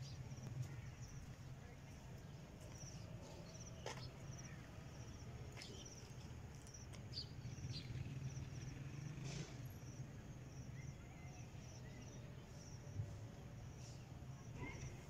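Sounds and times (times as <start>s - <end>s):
cricket chirping: 2.6s - 15.0s.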